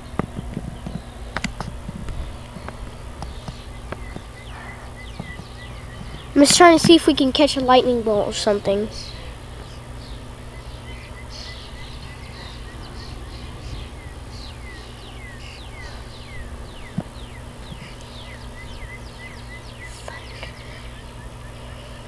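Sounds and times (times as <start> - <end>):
birds chirping: 0.0 - 22.0
low background rumble: 0.0 - 22.0.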